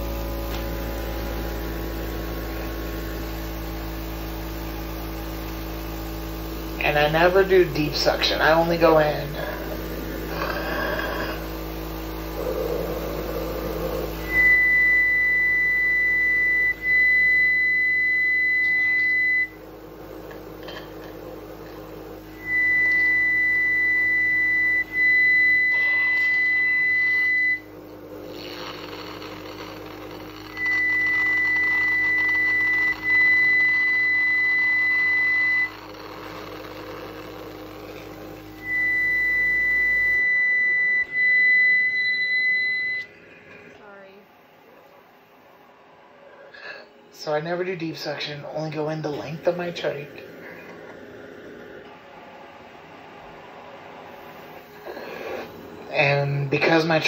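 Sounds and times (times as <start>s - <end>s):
machine high whistling tone: 0.0s - 44.0s, 46.6s - 57.0s.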